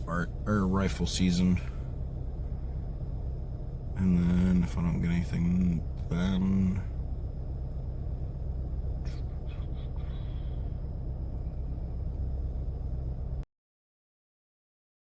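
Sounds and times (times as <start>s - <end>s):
car engine rumble inside cabin: 0.0s - 13.4s.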